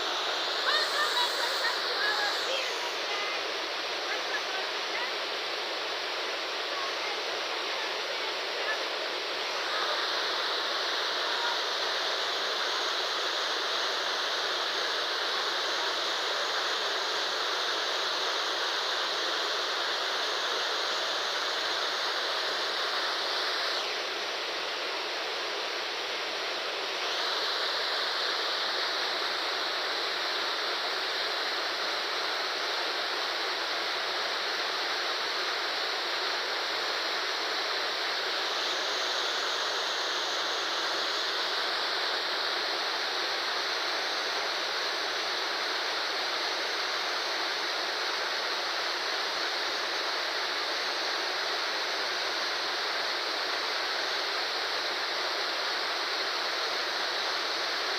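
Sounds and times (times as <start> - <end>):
waterfall rushing: 0.0 - 50.6.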